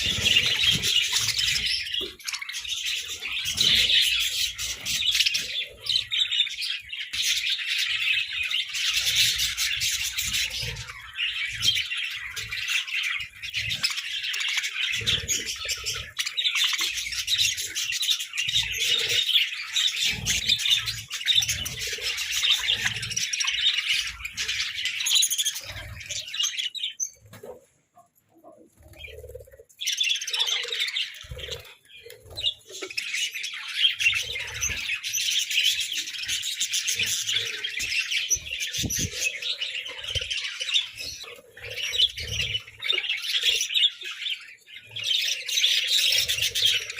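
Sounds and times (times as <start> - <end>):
budgerigars chattering and chirping: 0.0 - 46.9.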